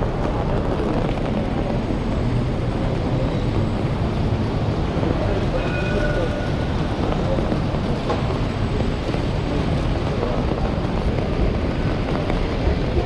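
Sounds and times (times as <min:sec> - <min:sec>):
traffic on wet road: 0:00.0 - 0:13.0.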